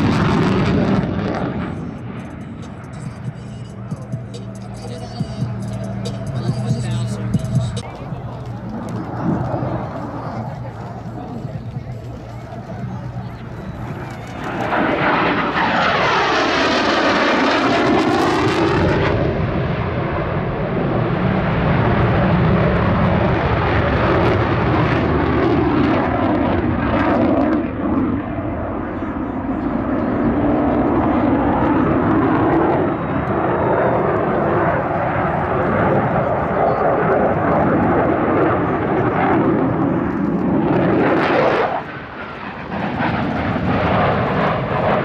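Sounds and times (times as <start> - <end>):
jet engine roar: 0.0 - 45.0.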